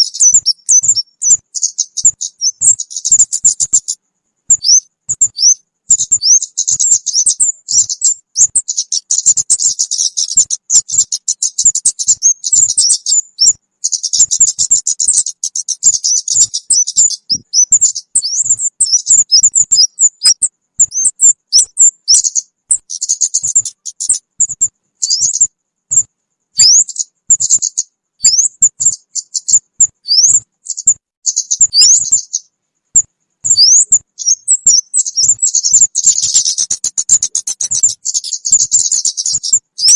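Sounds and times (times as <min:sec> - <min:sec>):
bird chirps and whistles: 0:00.0 - 0:39.9.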